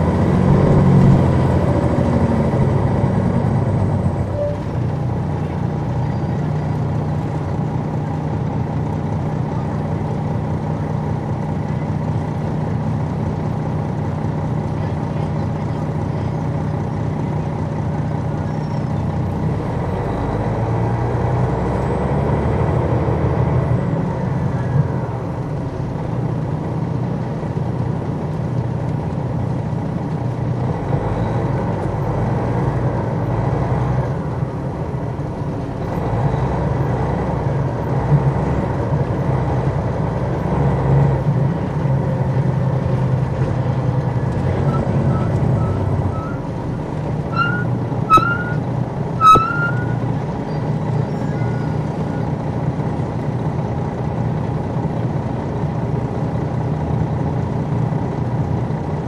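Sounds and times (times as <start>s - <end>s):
diesel bus engine: 0.0s - 59.0s.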